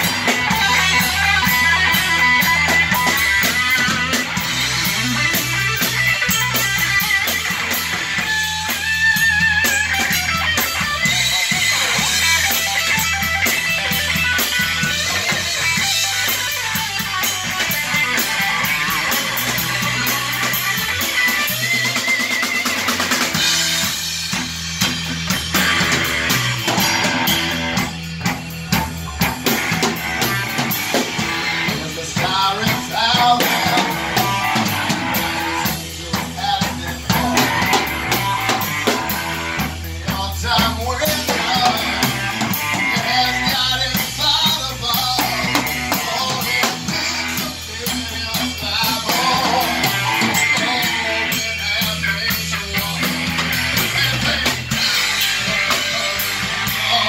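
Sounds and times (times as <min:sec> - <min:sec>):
person singing: 0:00.0 - 0:24.0, 0:25.6 - 0:57.0
bass guitar: 0:00.0 - 0:57.0
drum kit: 0:00.0 - 0:57.0
electric guitar lead: 0:00.0 - 0:57.0.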